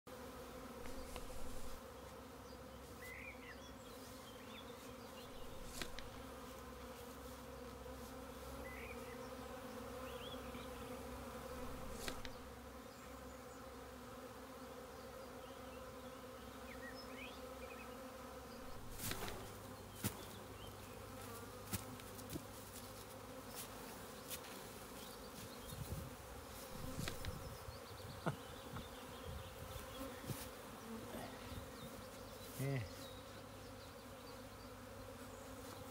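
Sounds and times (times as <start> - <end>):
bees humming: 0.1 - 35.9.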